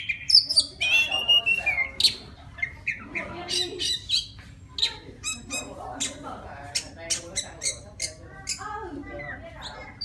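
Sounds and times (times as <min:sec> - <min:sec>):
bird singing: 0:00.0 - 0:10.0.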